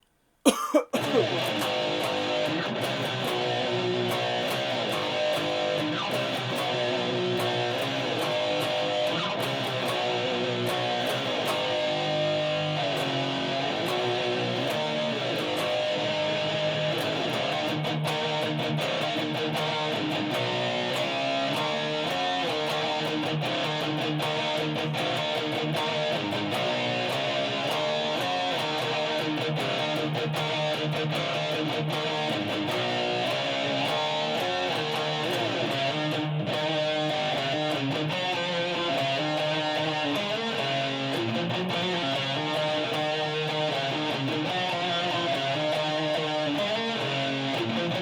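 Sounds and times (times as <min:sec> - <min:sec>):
solo electric guitar riffs: 0:00.5 - 0:48.0.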